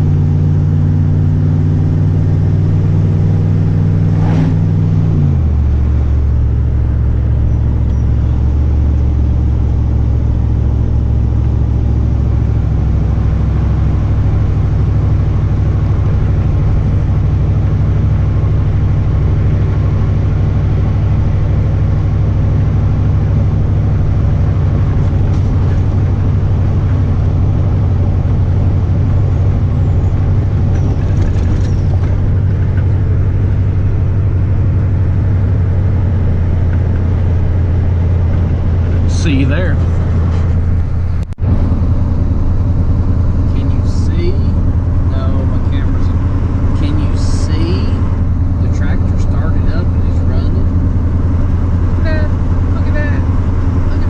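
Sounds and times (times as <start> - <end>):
road noise: 0.0 - 54.0
truck engine drone: 0.0 - 54.0.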